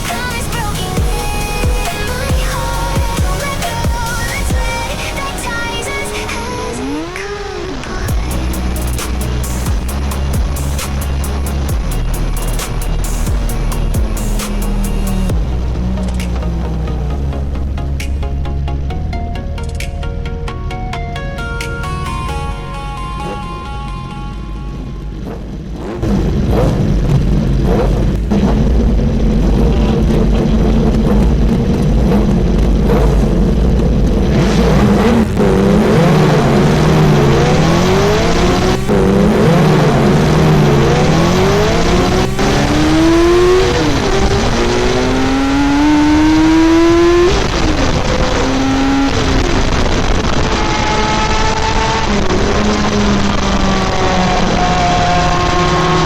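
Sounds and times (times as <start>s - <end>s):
motorcycle engine revving: 0.0s - 19.0s, 24.6s - 56.0s.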